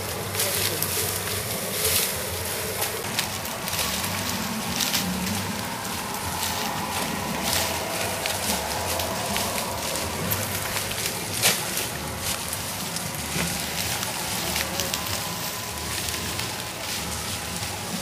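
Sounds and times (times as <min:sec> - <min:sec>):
low rumble: 0:00.0 - 0:18.0
wind rustling tall grass: 0:00.0 - 0:18.0.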